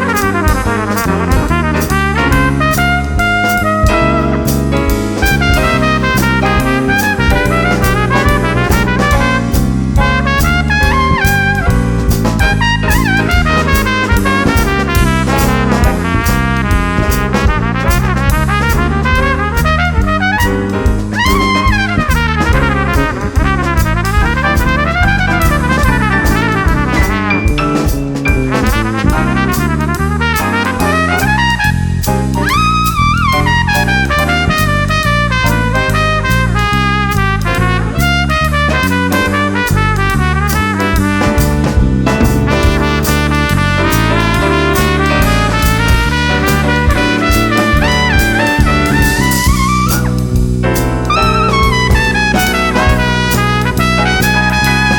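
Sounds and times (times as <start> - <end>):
drum kit: 0.0 - 54.9
trumpet solo: 0.0 - 54.9
walking bass: 0.0 - 54.9.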